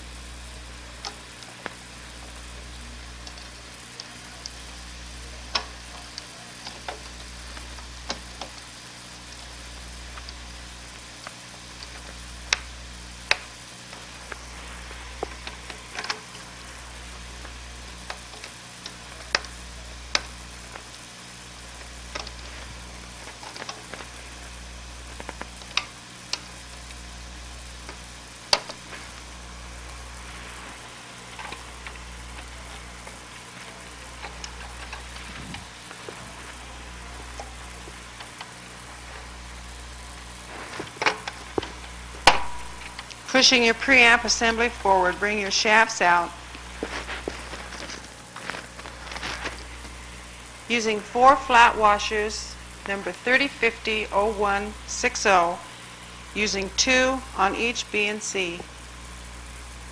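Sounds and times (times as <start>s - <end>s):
crackles and pops: 0.0s - 50.7s, 52.5s - 53.1s
film soundtrack hiss and hum: 0.0s - 59.9s.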